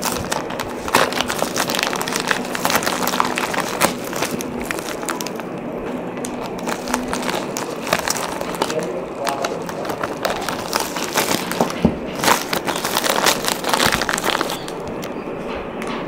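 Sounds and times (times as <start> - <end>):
plastic bag crinkling and tearing: 0.0 - 15.1.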